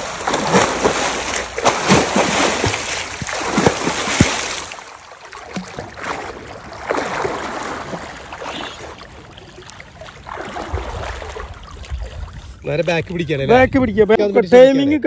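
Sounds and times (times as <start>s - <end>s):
water splashing and sloshing: 0.0s - 14.1s.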